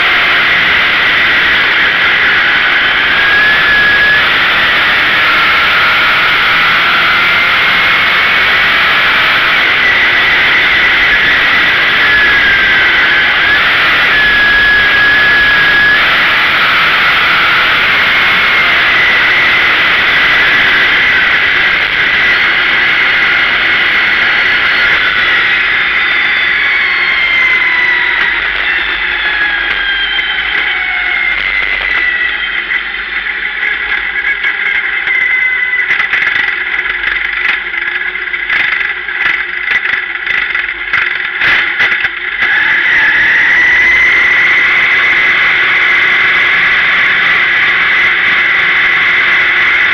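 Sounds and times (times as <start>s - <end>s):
high steady whine: 0.0s - 49.9s
race car engine: 0.0s - 49.9s.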